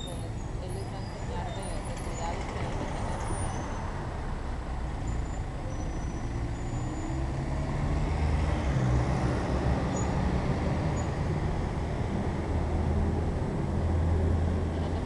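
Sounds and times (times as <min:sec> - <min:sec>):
street traffic: 0:00.0 - 0:15.0
vehicle engine rumbling: 0:00.0 - 0:15.0.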